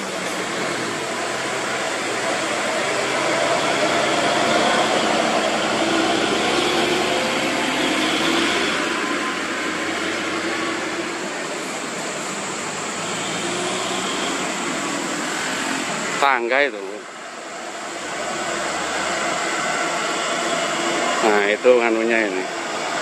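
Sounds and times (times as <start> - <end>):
truck passing by: 0.0 - 23.0
vehicles passing: 0.0 - 23.0.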